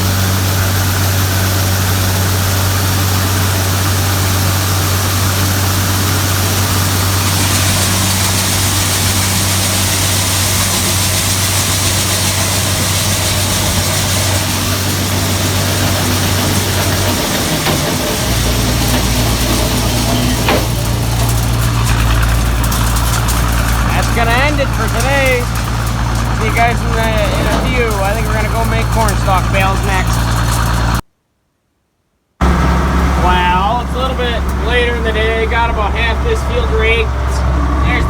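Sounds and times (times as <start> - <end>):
farm machinery engine humming: 0.0 - 31.0, 32.4 - 38.0.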